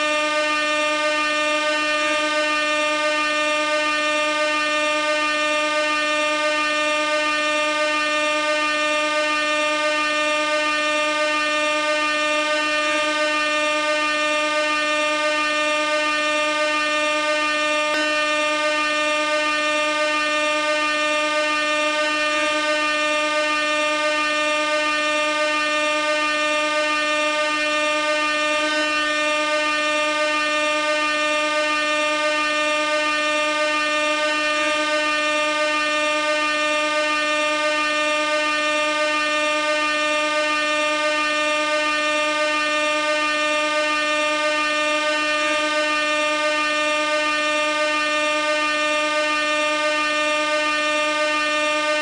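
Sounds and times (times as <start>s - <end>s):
air horn continuous note: 0.0s - 52.0s.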